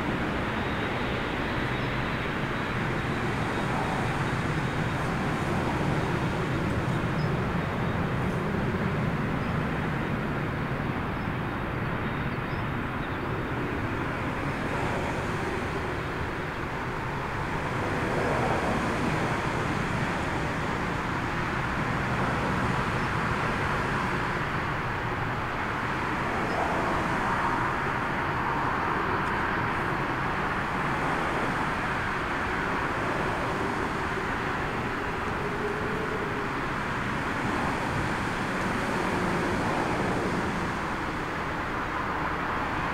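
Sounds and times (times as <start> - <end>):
jet engines rushing: 0.0 - 11.9, 12.7 - 42.9
faint jet engine whine: 0.0 - 42.9.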